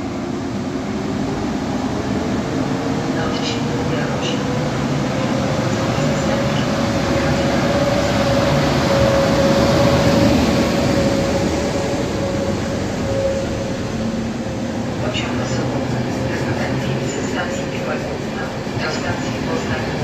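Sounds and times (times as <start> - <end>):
locomotive whine: 0.0 - 20.0
train rumbling past: 0.0 - 20.0.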